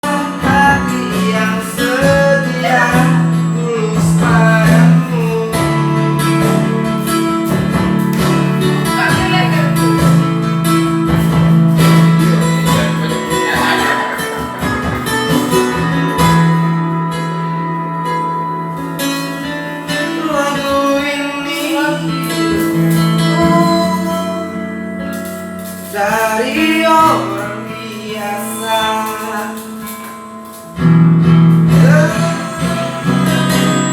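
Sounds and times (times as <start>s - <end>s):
person singing: 0.0s - 16.0s, 17.6s - 30.6s, 31.5s - 33.9s
guitar-backed karaoke track: 0.0s - 33.9s.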